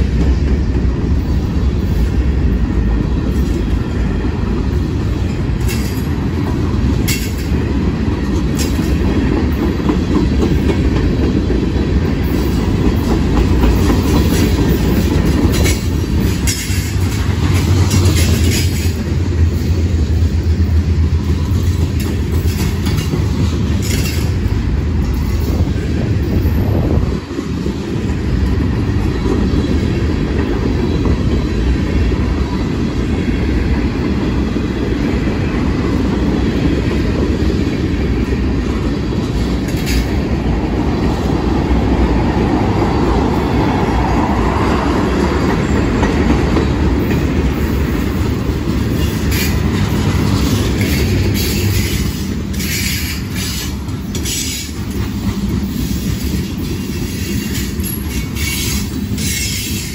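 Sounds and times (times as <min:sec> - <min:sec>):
train wheels rumbling and clacking: 0:00.0 - 0:59.9.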